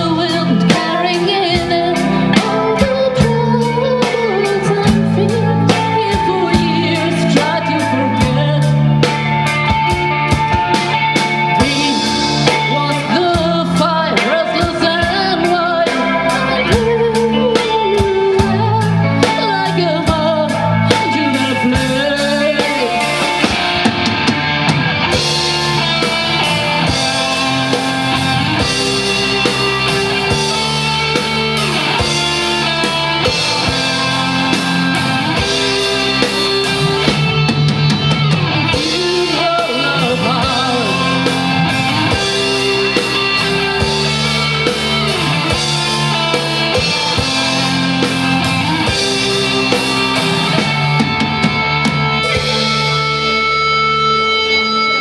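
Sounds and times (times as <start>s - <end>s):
drum kit: 0.0s - 55.0s
electric guitars: 0.0s - 55.0s
sung vocals: 0.0s - 55.0s.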